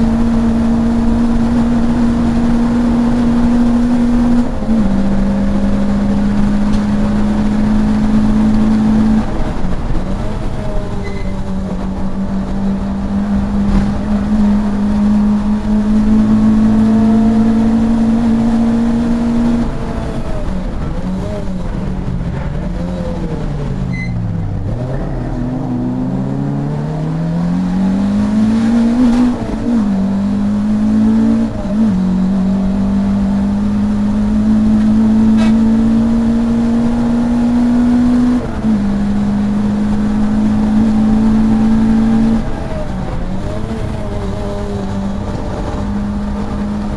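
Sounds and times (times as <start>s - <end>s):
car engine revving and shifting: 0.0s - 46.9s.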